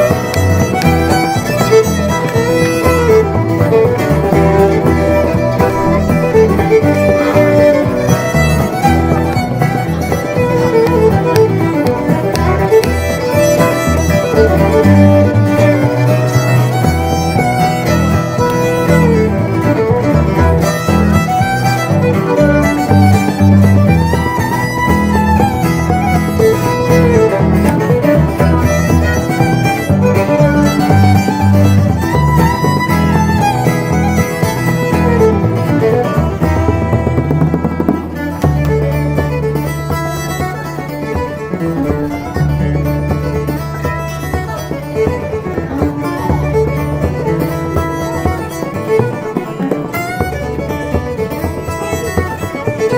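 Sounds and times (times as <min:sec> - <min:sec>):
fiddle and guitar music with beat: 0:00.0 - 0:52.9.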